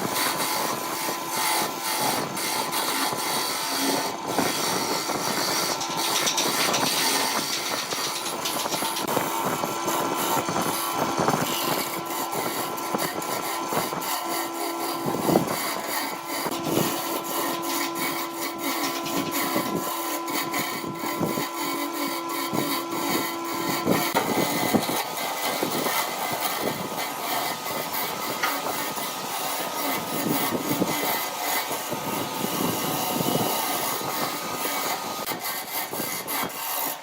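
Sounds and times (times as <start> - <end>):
lathe motor hum: 0.0 - 37.0
tool scraping spinning wood: 0.0 - 37.0.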